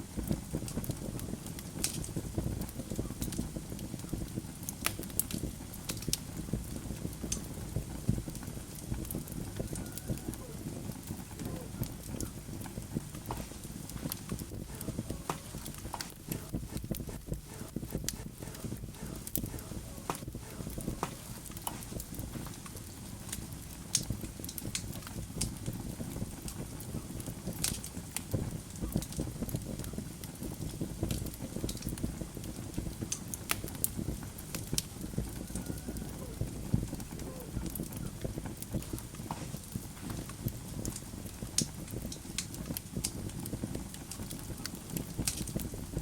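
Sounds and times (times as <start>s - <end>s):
low rumble of flames: 0.0s - 46.0s
wood fire crackling: 0.0s - 46.0s.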